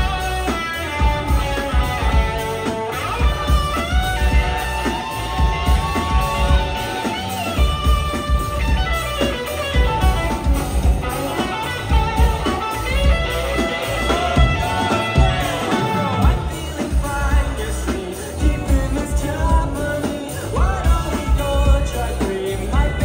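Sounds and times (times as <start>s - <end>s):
steady drum beat: 0.0s - 23.0s.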